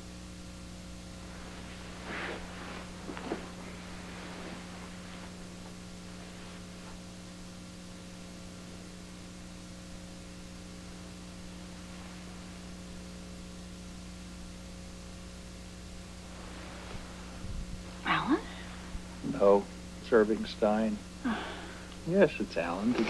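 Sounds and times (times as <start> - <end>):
electrical mains hum: 0.0 - 23.0
faint hiss: 0.0 - 23.0.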